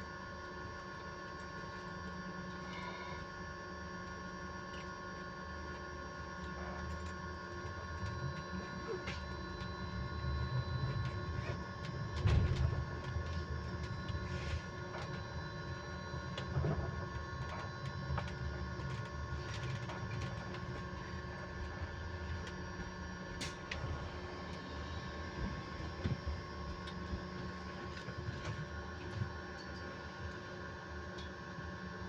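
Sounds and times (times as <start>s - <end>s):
electric bus whine: 0.0s - 32.0s.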